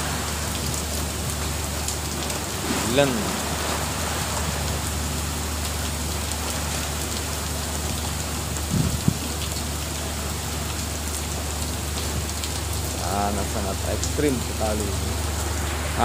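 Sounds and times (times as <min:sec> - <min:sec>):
heavy rain on sea and boat: 0:00.0 - 0:16.0
low steady rumble: 0:00.0 - 0:16.0.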